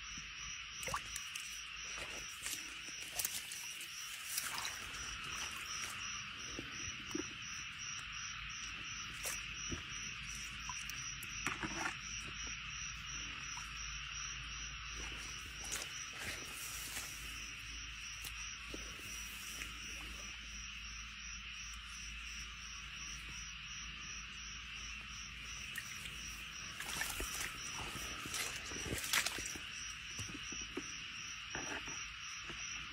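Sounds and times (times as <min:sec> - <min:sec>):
cricket chirping: 0:00.0 - 0:32.9
insects chorus: 0:00.0 - 0:32.9.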